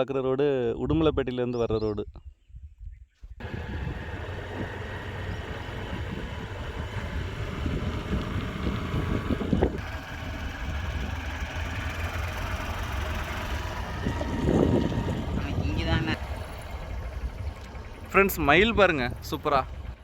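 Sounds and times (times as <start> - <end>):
wind buffeting microphone: 0.8 - 20.0
motorcycle engine running: 3.4 - 20.0
road rumble: 3.4 - 20.0.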